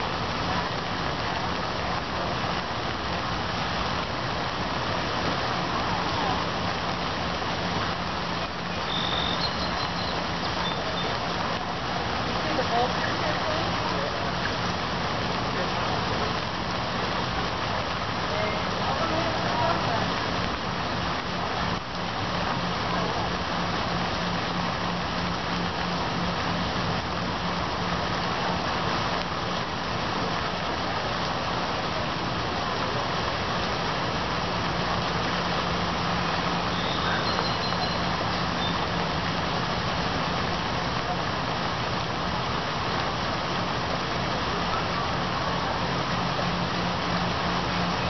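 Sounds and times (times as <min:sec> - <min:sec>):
steady rain hiss: 0:00.0 - 0:48.0.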